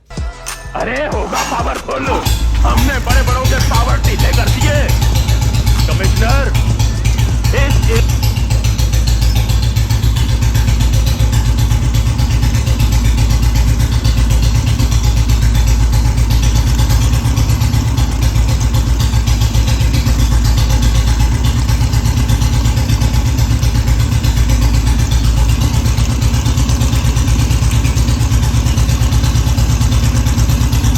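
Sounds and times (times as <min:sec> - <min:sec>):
engine rocker noise: 0:00.0 - 0:30.9
single-cylinder engine running: 0:00.0 - 0:30.9.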